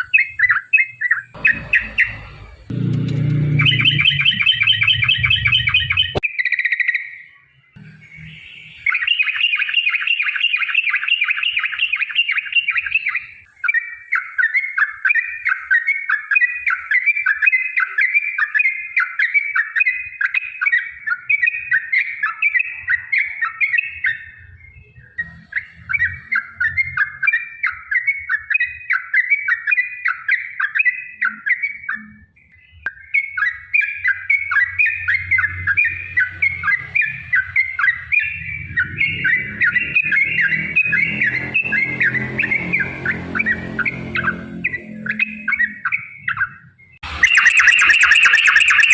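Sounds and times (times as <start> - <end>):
bird chattering song: 0.0 - 2.5, 3.4 - 48.9.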